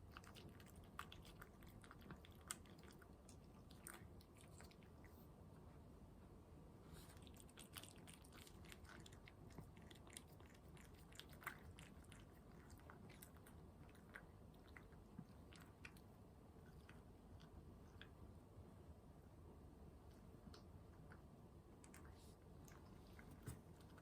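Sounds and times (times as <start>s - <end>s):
cat chewing food: 0.0s - 5.3s, 6.9s - 18.3s, 20.4s - 24.0s.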